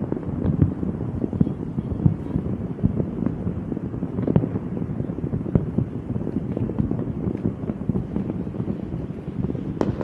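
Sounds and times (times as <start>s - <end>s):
distant fireworks popping: 0.0s - 10.0s
firework bang: 0.0s - 10.0s
wind buffeting microphone: 0.0s - 10.0s.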